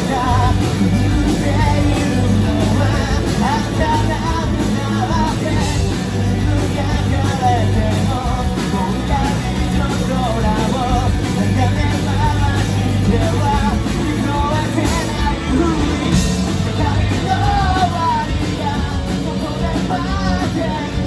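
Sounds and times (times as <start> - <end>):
bass guitar: 0.0 - 21.0
drum kit: 0.0 - 21.0
electric guitars: 0.0 - 21.0
man singing: 0.0 - 21.0.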